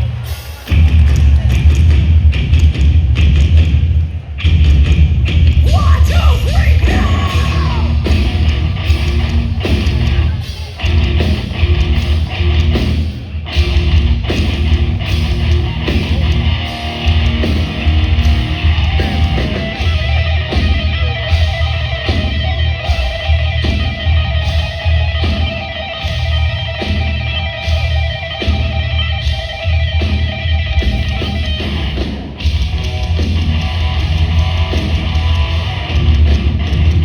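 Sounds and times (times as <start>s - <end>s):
heavy rock band playing: 0.0s - 37.0s.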